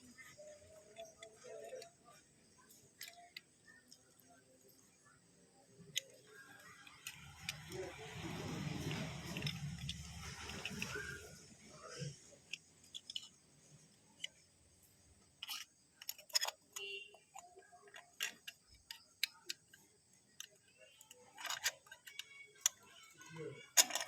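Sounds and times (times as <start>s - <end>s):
metal parts clicking and tapping: 0.0s - 4.9s, 5.7s - 24.0s.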